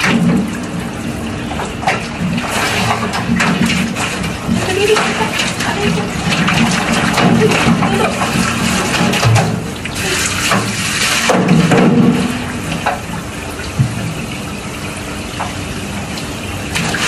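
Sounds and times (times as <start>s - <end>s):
water splashing into concrete sink: 0.0s - 17.0s.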